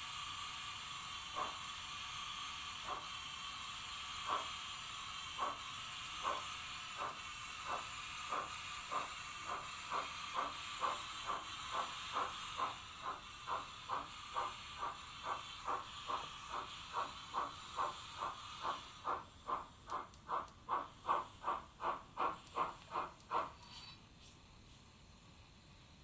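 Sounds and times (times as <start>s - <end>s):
steam engine exhaust chuffs: 0.0s - 23.6s
steam hiss: 0.0s - 26.0s.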